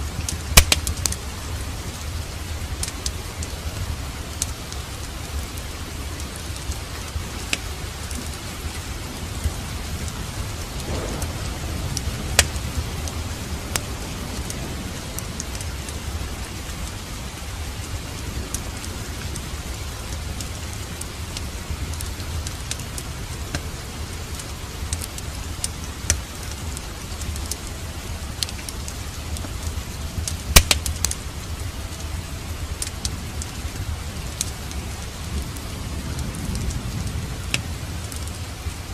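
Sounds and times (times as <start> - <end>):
low rumble: 0.0 - 38.9
steady rain: 0.0 - 38.9
wood fire crackling and popping: 0.0 - 38.9.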